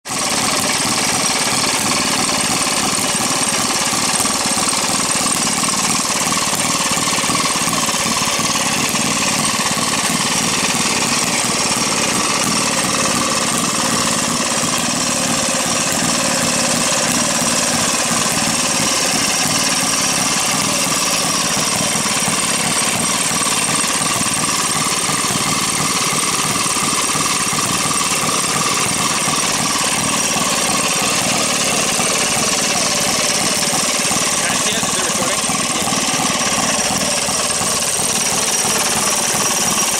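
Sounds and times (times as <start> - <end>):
two-stroke engines running: 0.0 - 39.9.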